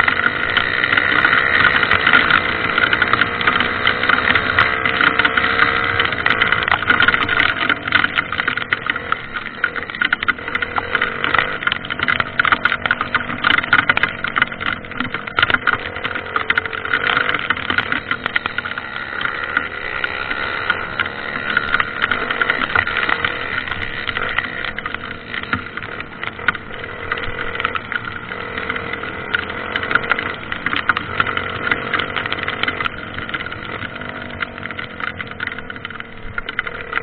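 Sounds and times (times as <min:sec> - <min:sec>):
crackling rattling noise: 0:00.0 - 0:37.0
dirt bike engine running: 0:00.0 - 0:37.0.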